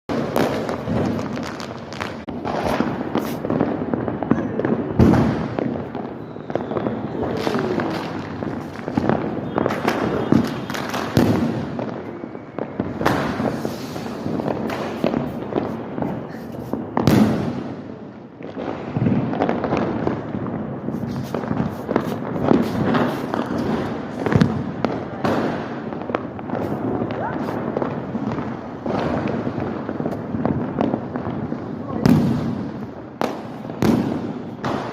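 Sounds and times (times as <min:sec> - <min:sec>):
firecrackers banging and crackling: 0:00.1 - 0:34.9.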